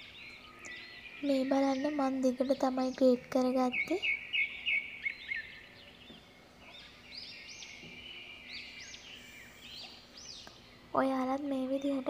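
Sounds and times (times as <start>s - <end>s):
faint low hum: 0.0s - 12.0s
small birds chirping: 0.0s - 12.0s.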